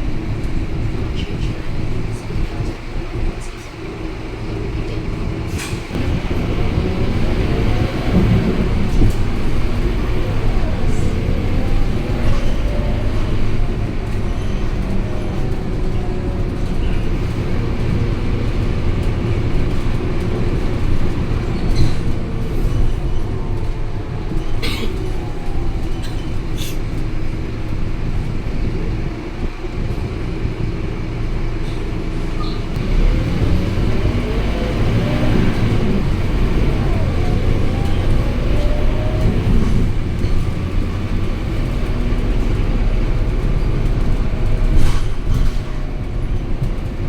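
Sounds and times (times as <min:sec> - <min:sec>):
bus diesel engine running: 0:00.0 - 0:47.0.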